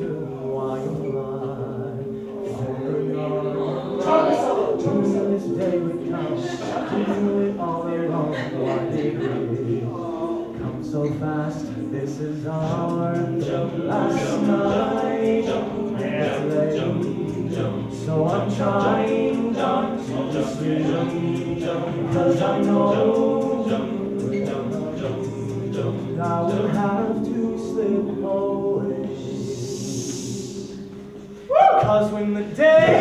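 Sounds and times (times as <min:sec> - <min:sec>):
male a cappella group singing: 0:00.0 - 0:33.0.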